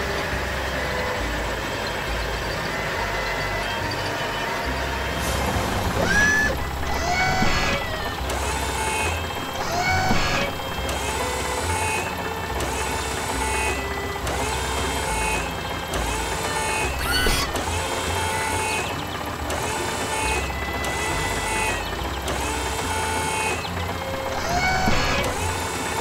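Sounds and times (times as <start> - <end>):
cartoon mechanical whirring: 0.0 - 26.0.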